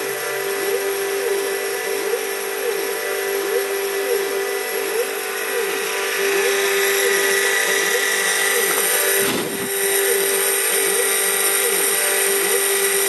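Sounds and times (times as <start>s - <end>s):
mill spindle high whine: 0.0s - 13.0s
motors whining in changing pitch: 0.0s - 13.0s.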